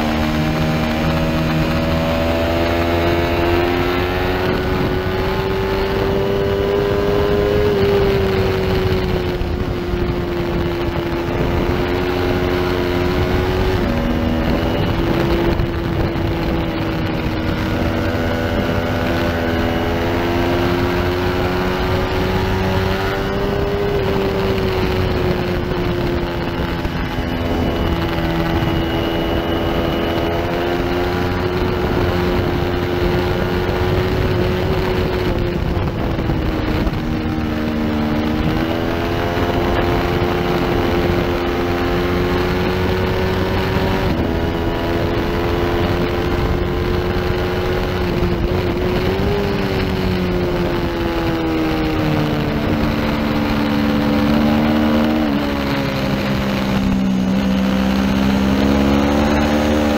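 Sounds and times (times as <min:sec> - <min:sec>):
racing motorcycle engine: 0:00.0 - 0:59.9.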